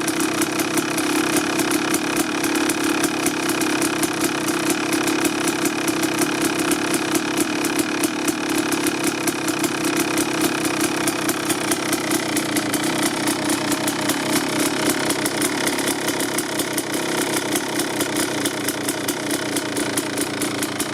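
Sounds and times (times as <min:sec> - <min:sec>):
two-stroke engine idling: 0:00.0 - 0:20.9.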